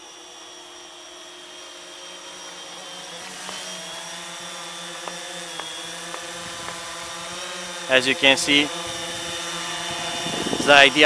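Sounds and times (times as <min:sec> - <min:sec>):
quadcopter motors humming: 0:00.0 - 0:11.0.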